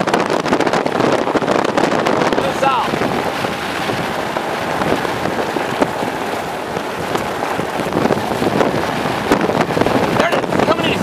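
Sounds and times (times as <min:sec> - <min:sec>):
rain ticking: 0:00.0 - 0:11.0
storm wind: 0:00.0 - 0:11.0.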